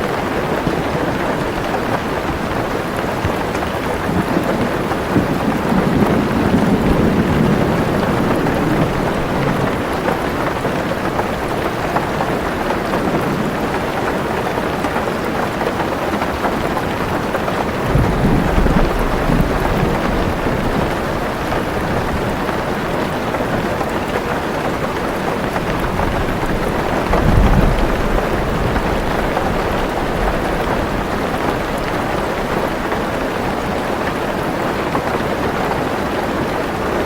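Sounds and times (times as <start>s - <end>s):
thunder rumbling: 0.0s - 36.8s
heavy rain on a car roof: 0.0s - 37.0s.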